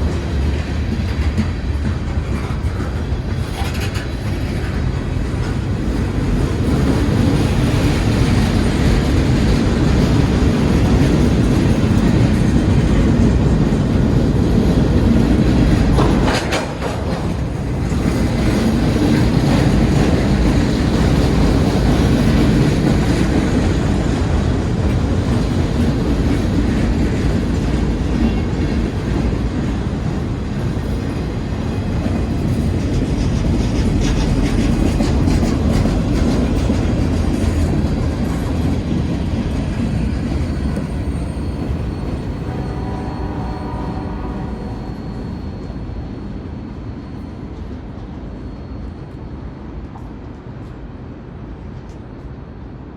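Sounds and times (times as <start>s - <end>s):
freight train wheels rumbling on rail: 0.0s - 52.9s.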